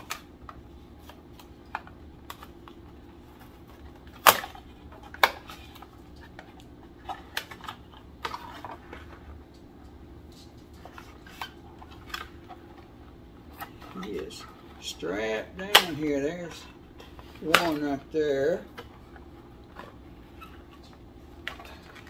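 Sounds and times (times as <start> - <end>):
cardboard and plastic packaging rustling: 0.0 - 22.0.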